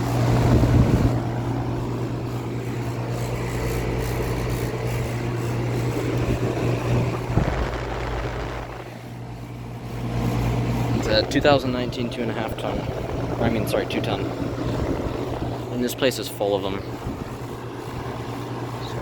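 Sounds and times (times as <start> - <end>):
condenser fan rushing: 0.0 - 19.0
low hum: 0.0 - 19.0.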